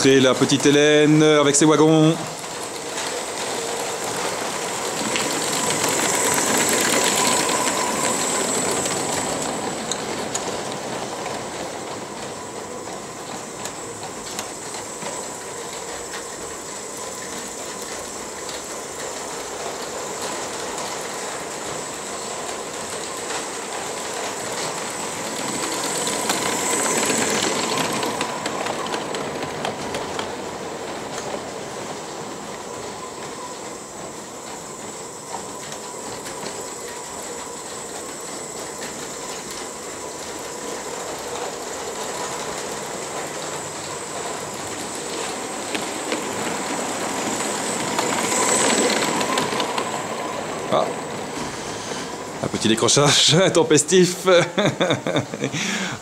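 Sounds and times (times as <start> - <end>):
steam locomotive hissing: 0.0 - 56.0
wheels clicking on track: 0.0 - 56.0.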